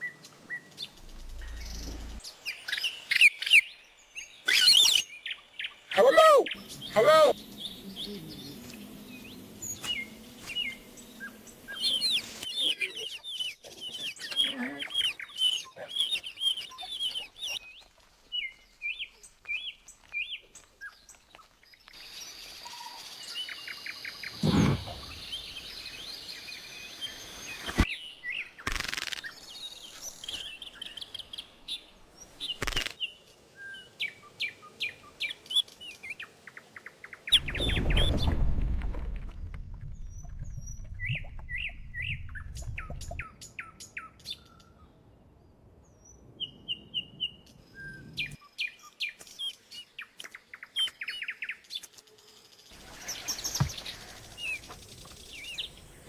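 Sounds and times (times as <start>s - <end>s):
small birds chirping: 0.0s - 38.4s, 39.9s - 45.0s, 45.9s - 56.0s.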